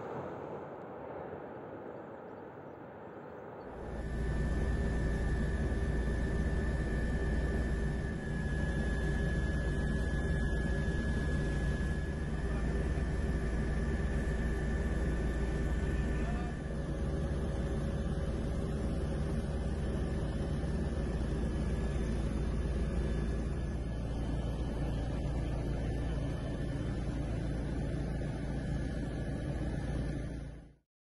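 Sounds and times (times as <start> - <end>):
aircraft engine rumble and whine: 0.0 - 30.8.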